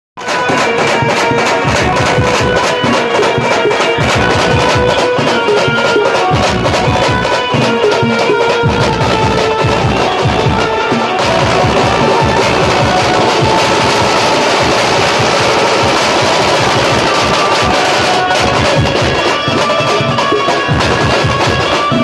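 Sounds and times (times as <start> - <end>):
banjo melody: 0.2 - 22.0
fast dense drumming: 0.2 - 22.0.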